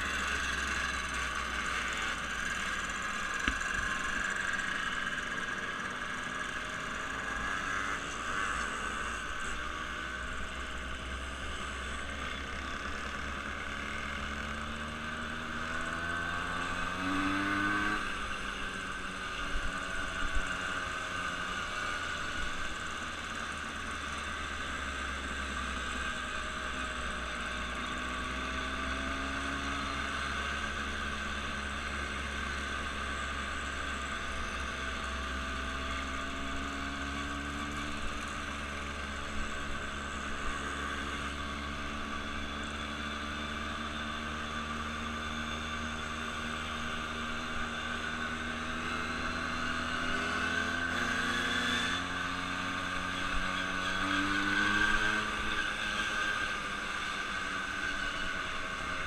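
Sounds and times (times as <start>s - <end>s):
travel noise: 0.0s - 59.0s
vehicle engine running: 0.0s - 59.0s.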